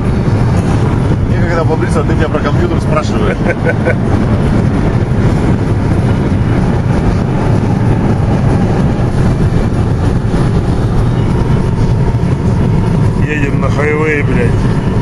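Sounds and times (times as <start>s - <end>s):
deep low rumble: 0.0s - 15.0s
road and wind noise in car cabin: 0.0s - 15.0s.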